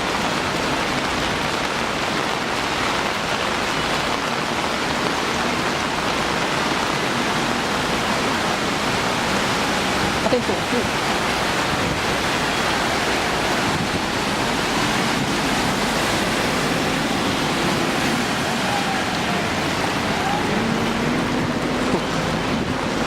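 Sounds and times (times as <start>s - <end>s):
floodwater rushing down street: 0.0s - 23.0s.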